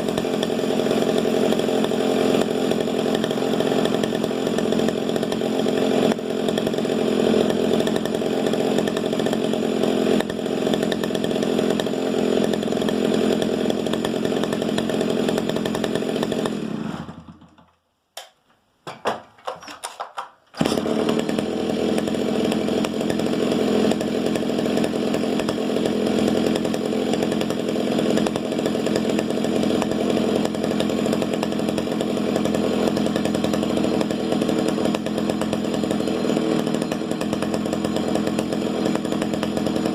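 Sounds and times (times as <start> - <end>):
chainsaw engine running: 0.0 - 17.7, 19.0 - 39.9.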